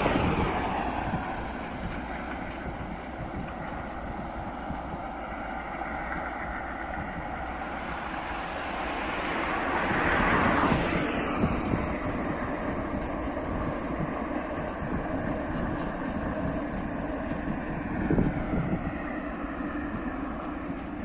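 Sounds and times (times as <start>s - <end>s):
sharp train clacks: 0.0s - 21.0s
train rumbling past: 0.0s - 21.0s.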